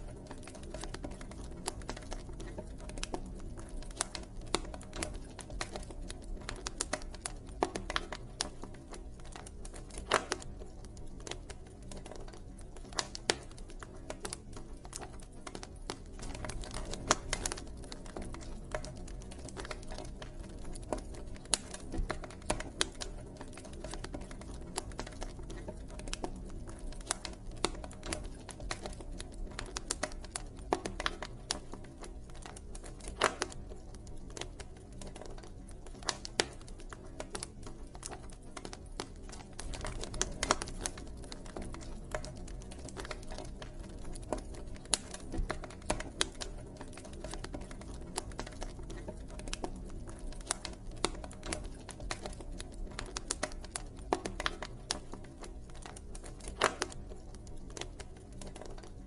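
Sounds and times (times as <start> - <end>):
campfire wood crackling and popping: 0.0 - 59.0.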